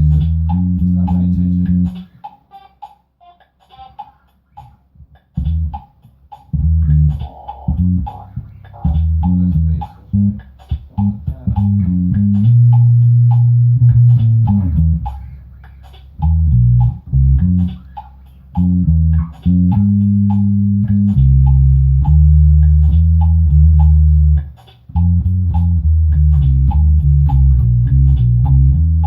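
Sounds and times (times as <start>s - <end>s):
bass guitar riff: 0.0s - 2.1s, 5.4s - 29.0s
light ticking beat: 0.0s - 29.0s.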